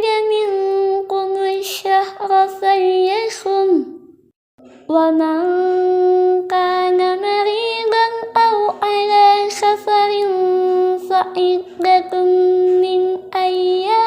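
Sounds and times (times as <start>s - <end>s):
person reciting in high voice: 0.0s - 4.0s, 4.6s - 14.0s.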